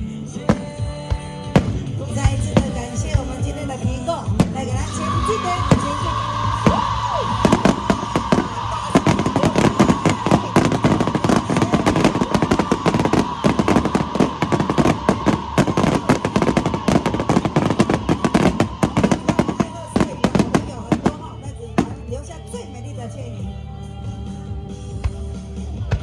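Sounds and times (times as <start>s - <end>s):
fireworks bangs and crackling: 0.1s - 22.5s.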